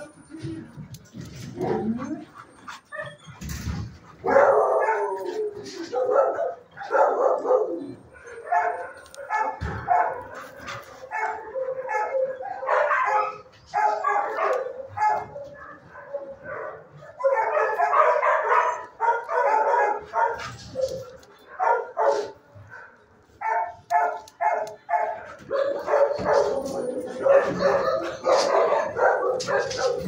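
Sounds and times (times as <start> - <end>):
dogs barking: 4.0 - 30.0.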